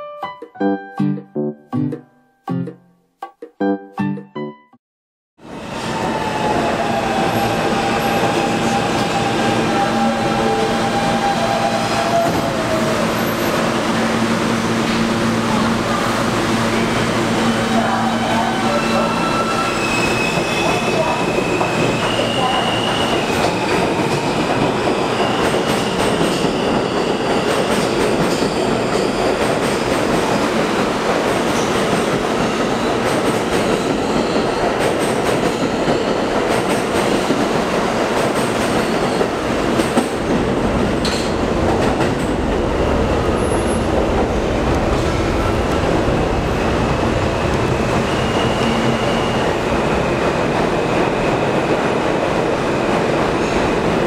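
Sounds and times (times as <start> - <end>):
subway train noise: 5.4 - 54.0.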